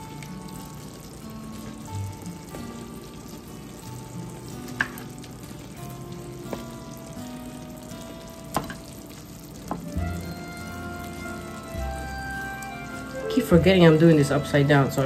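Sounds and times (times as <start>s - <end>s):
sauce sizzling in a skillet: 0.0s - 15.0s.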